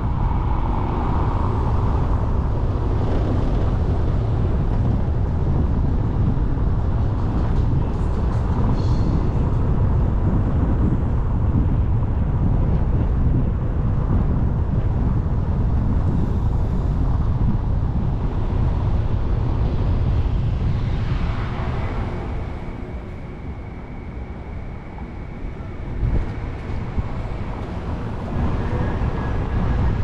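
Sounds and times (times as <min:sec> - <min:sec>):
wind on microphone: 0:00.0 - 0:30.0.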